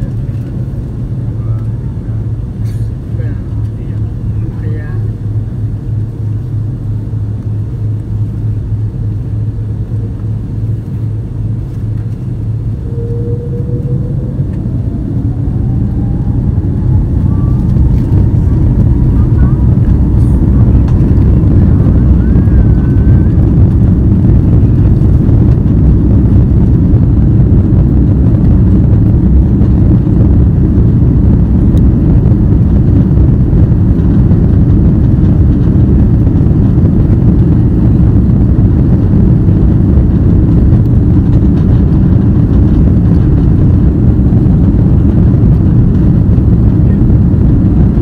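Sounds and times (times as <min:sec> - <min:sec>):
jet engines deep rumble: 0:00.0 - 0:48.0.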